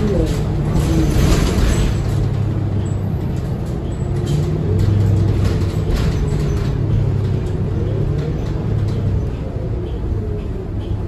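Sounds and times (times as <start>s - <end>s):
interior rattles: 0.0s - 9.4s
bus diesel engine drone: 0.0s - 11.0s
road noise: 0.0s - 11.0s.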